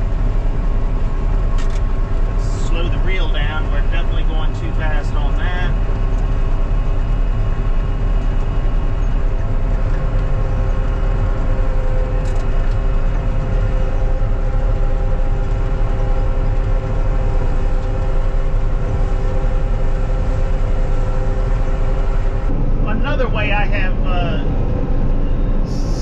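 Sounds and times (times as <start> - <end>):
combine low rumble: 0.0 - 26.0
steady whining tones: 0.0 - 26.0.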